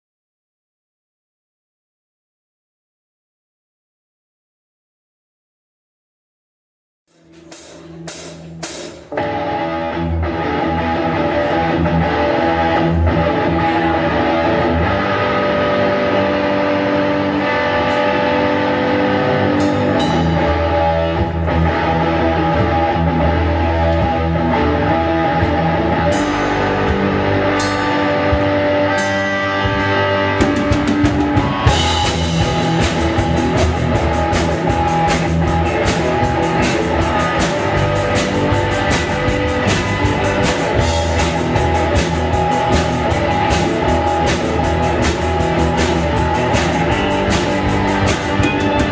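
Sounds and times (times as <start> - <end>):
drum kit: 7.1 - 48.9
rock music with guitars: 7.2 - 48.9.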